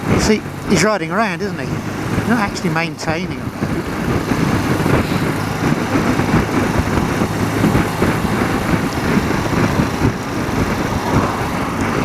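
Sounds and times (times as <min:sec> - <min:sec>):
motorcycle engine running: 0:00.0 - 0:12.0
road noise: 0:00.0 - 0:12.0
rushing wind: 0:00.0 - 0:12.0.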